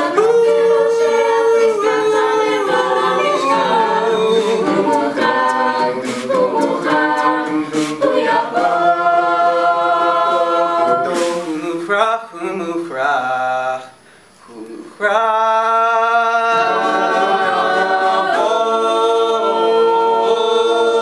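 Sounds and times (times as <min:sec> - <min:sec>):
a cappella group singing: 0:00.0 - 0:21.0.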